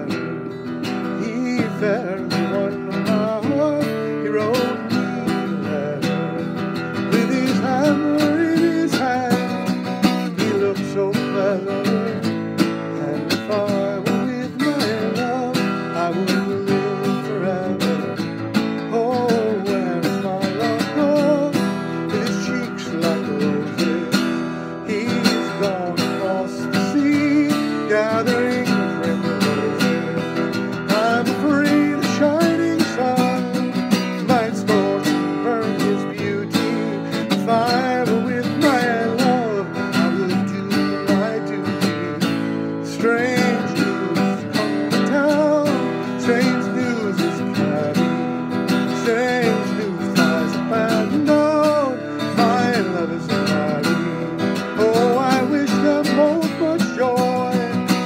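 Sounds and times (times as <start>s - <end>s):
man singing a slow ballad: 0.0s - 58.0s
strummed acoustic guitar: 0.0s - 58.0s.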